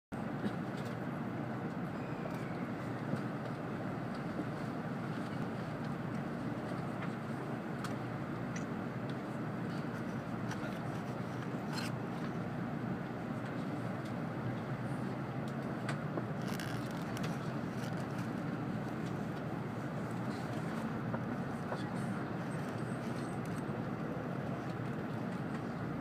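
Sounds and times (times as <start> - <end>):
train cabin low rumble: 0.2 - 26.0.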